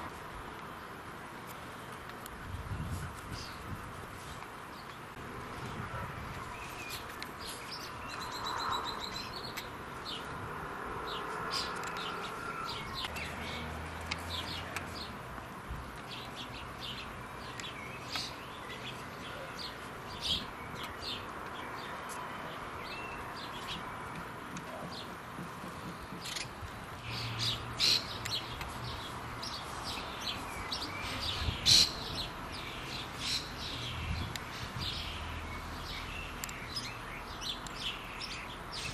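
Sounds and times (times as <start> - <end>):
birds chirping: 0.7 - 38.9.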